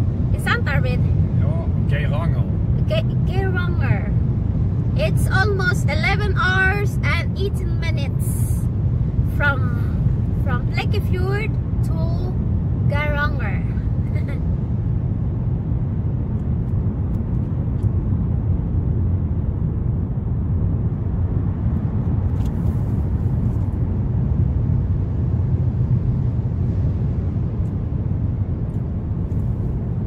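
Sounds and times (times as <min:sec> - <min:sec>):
car interior road rumble: 0:00.0 - 0:30.0.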